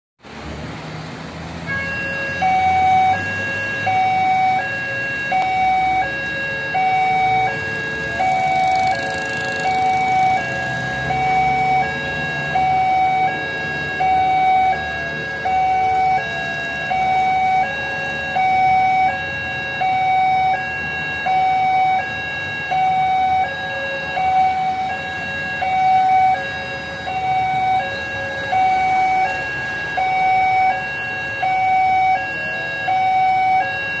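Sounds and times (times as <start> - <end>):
road traffic engines: 0.2 - 34.0
two-tone level crossing alarm: 1.7 - 34.0.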